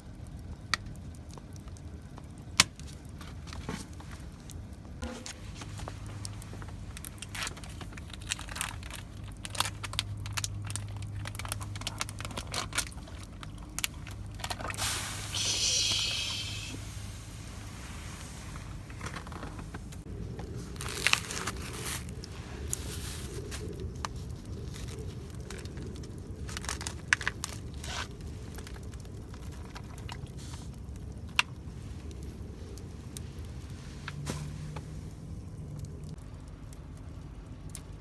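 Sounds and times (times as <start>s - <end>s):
rustling and crinkling handling: 1.4s - 15.3s, 16.8s - 36.2s
steady low hum: 3.1s - 38.0s.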